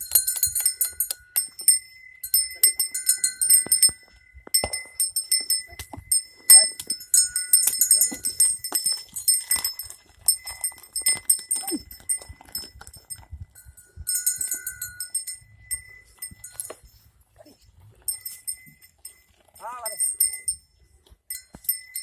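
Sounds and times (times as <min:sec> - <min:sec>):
small bells jingling: 0:00.0 - 0:22.0.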